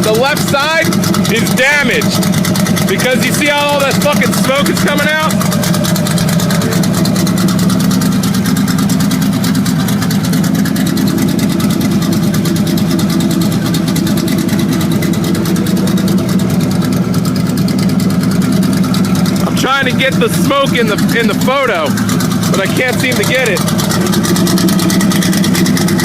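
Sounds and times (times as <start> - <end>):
car engine idling: 0.0 - 26.0
fast engine ticking: 0.0 - 26.0.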